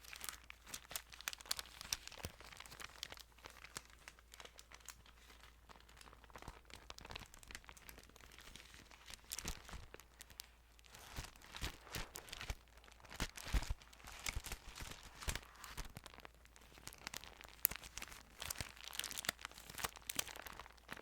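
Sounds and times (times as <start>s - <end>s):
thin paper pages rustling: 0.0s - 21.0s.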